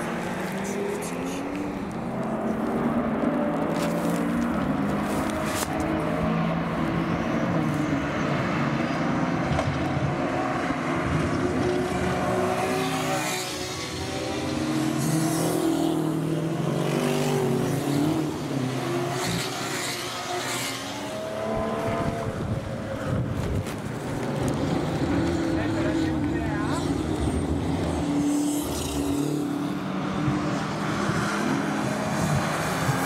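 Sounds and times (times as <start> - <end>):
race cars passing at speed: 0.0 - 33.0.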